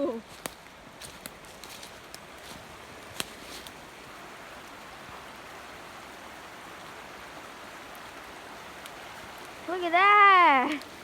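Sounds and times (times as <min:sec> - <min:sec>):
rushing flooded creek: 0:00.0 - 0:11.0.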